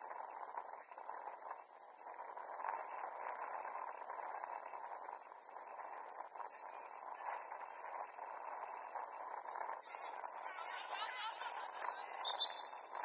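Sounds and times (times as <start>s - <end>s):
muffled outdoor ambience: 0.0s - 13.0s.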